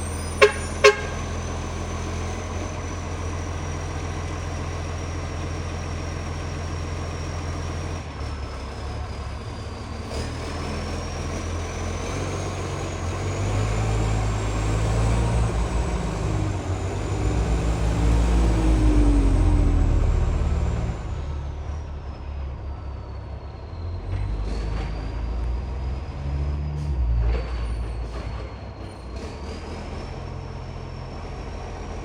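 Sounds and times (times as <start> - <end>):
diesel engine through leaking exhaust: 0.0 - 32.0.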